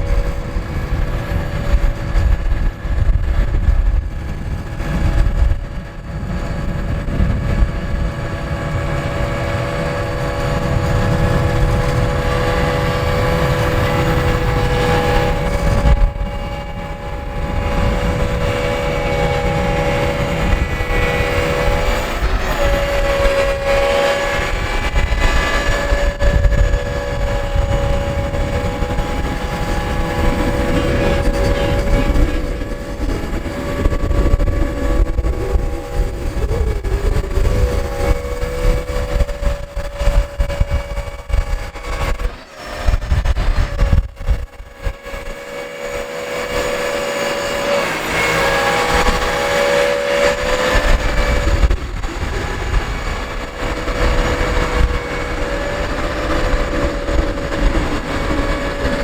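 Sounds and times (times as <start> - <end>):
diesel engine rumbling: 0.0 - 59.0
steady engine whine: 0.0 - 59.0.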